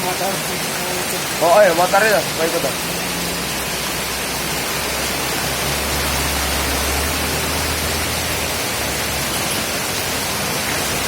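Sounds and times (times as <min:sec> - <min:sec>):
heavy rain: 0:00.0 - 0:11.0
rushing floodwater: 0:00.0 - 0:11.0.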